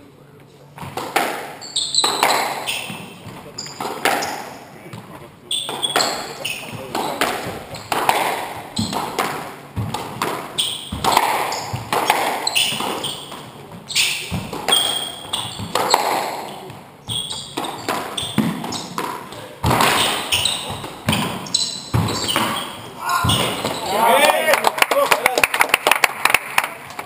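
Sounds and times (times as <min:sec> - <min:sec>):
squash ball hitting rackets and walls: 0:00.8 - 0:24.0, 0:25.4 - 0:27.0
shoes squeaking on wooden floor: 0:00.8 - 0:24.5.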